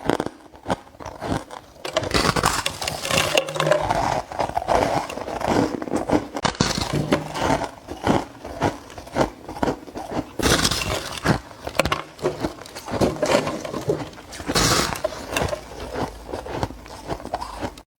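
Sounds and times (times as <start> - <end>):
ice being bitten crunching: 0.0 - 17.8.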